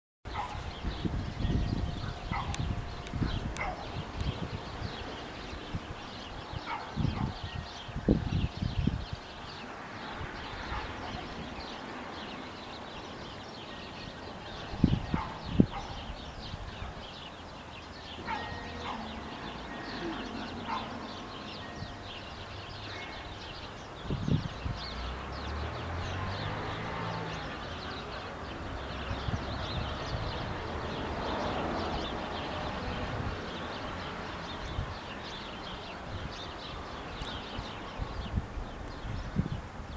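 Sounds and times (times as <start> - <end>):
small birds chirping: 0.3 - 39.9.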